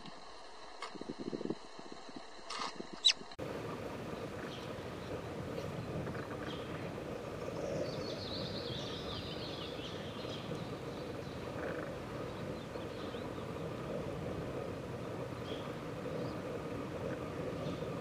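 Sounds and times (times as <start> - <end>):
background nature chorus: 0.0 - 18.0
small birds chirping: 2.9 - 18.0.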